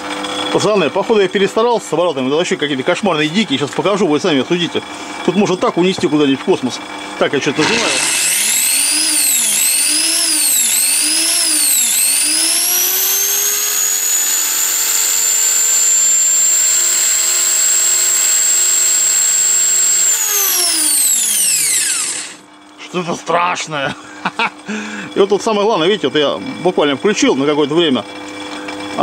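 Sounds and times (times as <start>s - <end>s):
angle grinder whine: 0.0s - 22.5s, 24.2s - 29.0s.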